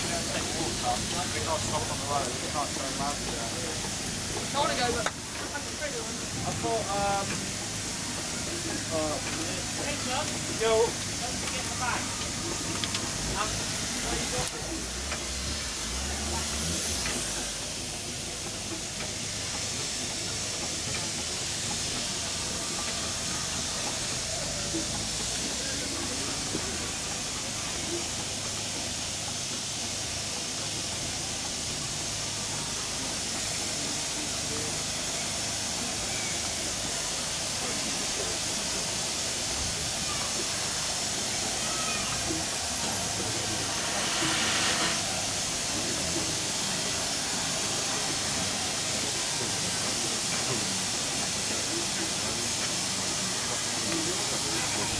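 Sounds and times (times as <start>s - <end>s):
steam hissing: 0.0s - 54.9s.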